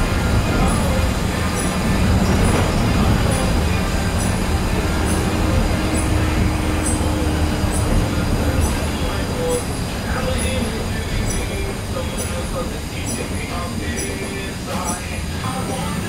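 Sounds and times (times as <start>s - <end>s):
bus engine and tyre rumble: 0.0s - 16.0s.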